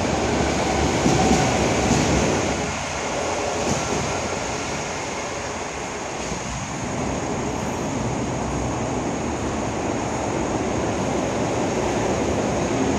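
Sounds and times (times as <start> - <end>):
railway platform rumble and hiss: 0.0 - 12.9.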